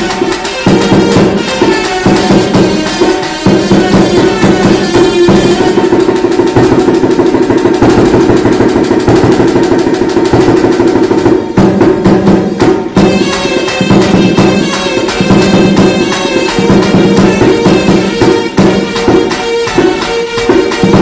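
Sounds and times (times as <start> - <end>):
fast drum beat: 0.0 - 21.0.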